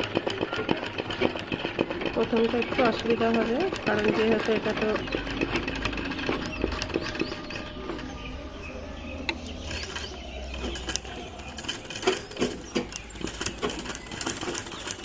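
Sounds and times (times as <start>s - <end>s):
sewing machine clattering: 0.0s - 8.6s, 9.2s - 15.0s.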